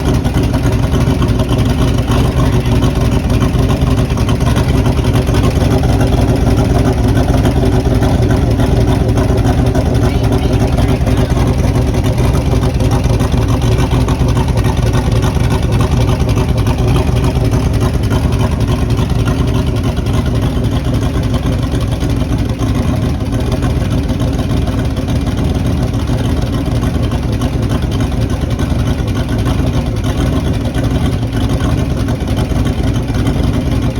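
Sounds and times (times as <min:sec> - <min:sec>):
race truck engine running: 0:00.0 - 0:33.9.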